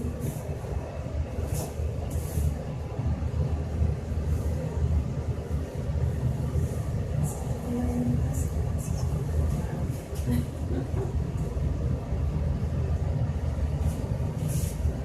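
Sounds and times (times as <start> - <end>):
elevator low rumble: 0.0 - 15.0.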